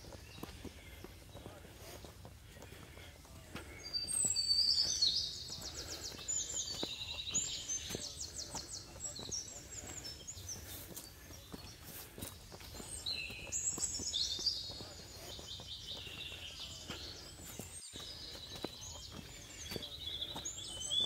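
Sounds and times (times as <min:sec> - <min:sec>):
footsteps crunching on trail: 0:00.0 - 0:21.0
songbirds singing: 0:00.0 - 0:21.0.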